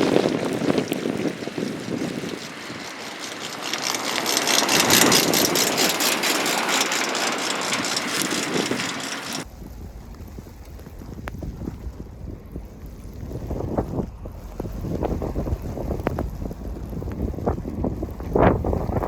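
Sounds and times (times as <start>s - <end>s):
low rumble: 0.0s - 19.0s
tyres hissing on snowy road: 0.0s - 19.0s.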